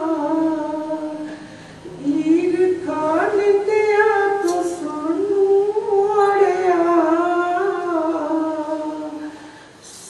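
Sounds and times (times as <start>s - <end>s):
person singing long held notes: 0.0s - 10.0s.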